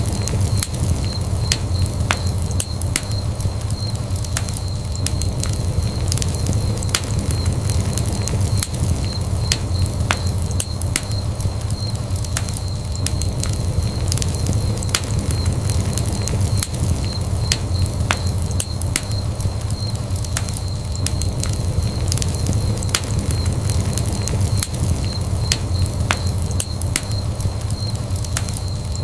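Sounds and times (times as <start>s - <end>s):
faint high whine: 0.0s - 29.0s
fire crackling: 0.0s - 29.0s.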